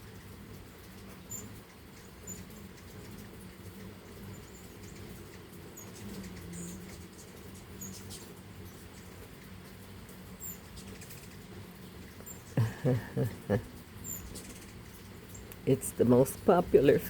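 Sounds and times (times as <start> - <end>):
hummingbirds chipping: 0.0 - 17.0
low steady hum: 0.0 - 17.0.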